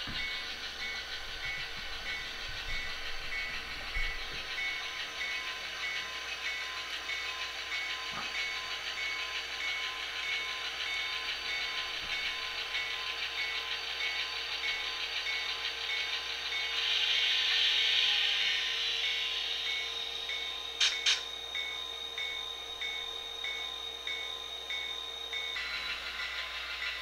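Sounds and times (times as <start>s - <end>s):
hiss: 0.0s - 27.0s
model locomotive engine drone: 0.0s - 27.0s.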